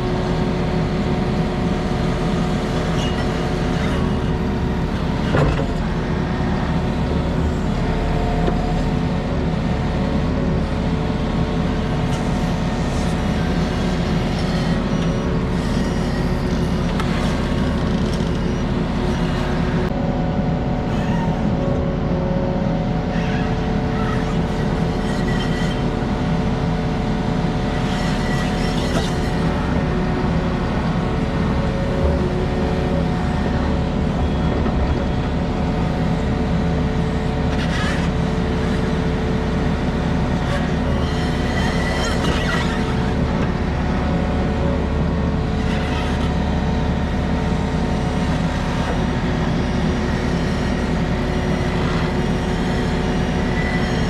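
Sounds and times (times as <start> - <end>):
hydraulic whine: 0.0 - 54.0.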